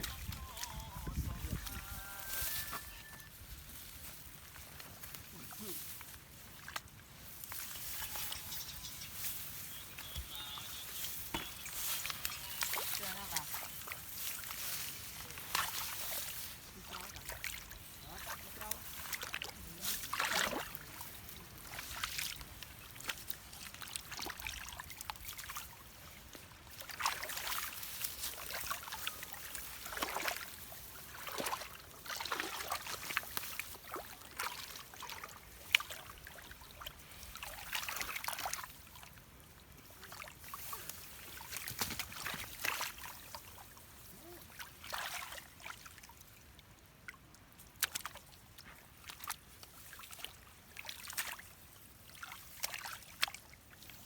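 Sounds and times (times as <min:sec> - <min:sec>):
muddy water splashing: 0:00.0 - 0:54.0.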